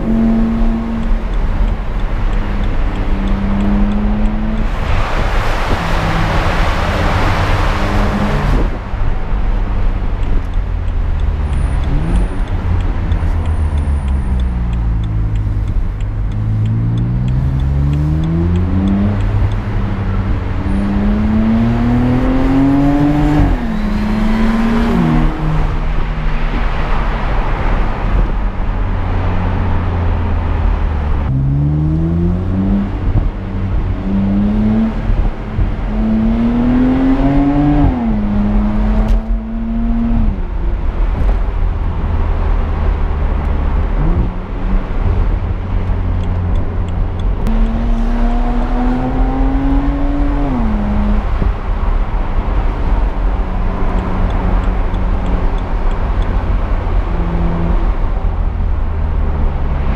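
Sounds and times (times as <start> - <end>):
car engine revving through gears: 0.0 - 59.9
low road rumble: 0.0 - 59.9.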